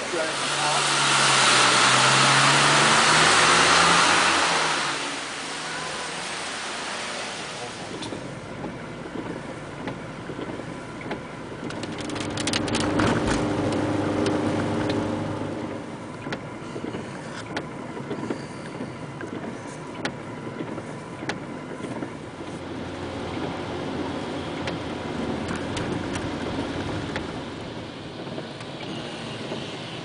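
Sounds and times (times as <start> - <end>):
engine hum: 0.0 - 30.0
road noise hiss: 0.0 - 30.0.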